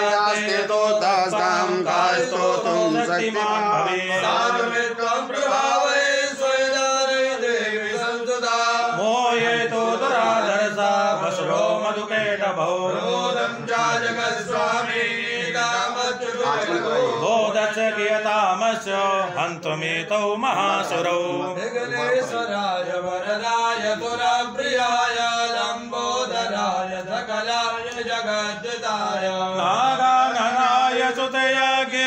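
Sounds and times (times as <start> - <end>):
priests chanting hymn verses: 0.0 - 32.0.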